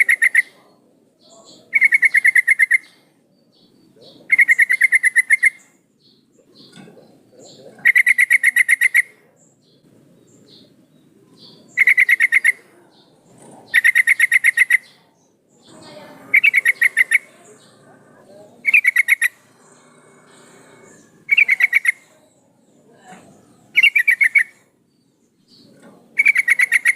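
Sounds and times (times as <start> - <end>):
bird chattering calls: 0.0 - 24.7, 25.4 - 26.9.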